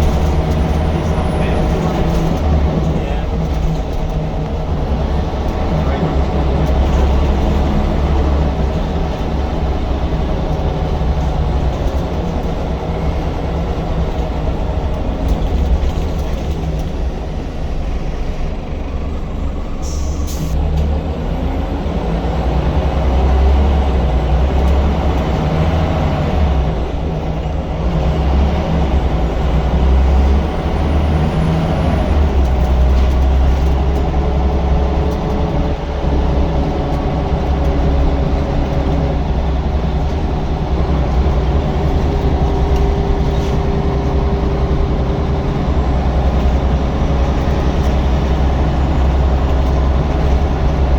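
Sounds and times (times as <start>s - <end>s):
bus diesel engine droning: 0.0s - 50.9s.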